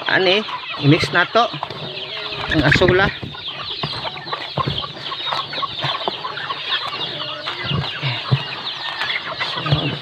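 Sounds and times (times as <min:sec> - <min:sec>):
chickens clucking and chirping: 0:00.0 - 0:10.0.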